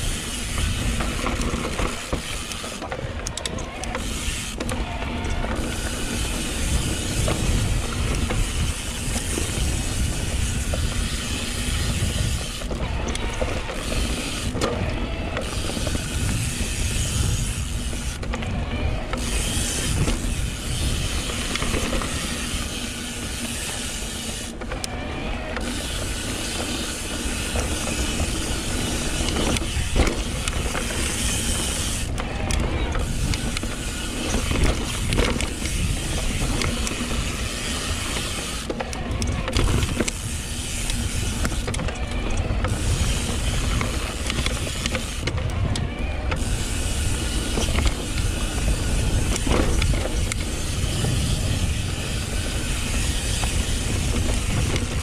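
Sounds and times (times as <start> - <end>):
bike rattling over bumps: 0.0 - 55.0
tyres on dirt: 0.0 - 55.0
wind on microphone: 0.0 - 55.0.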